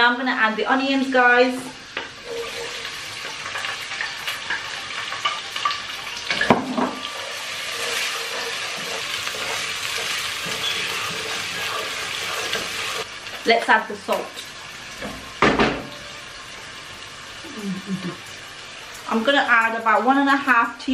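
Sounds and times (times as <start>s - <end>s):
onions sizzling in hot oil: 0.0s - 20.9s.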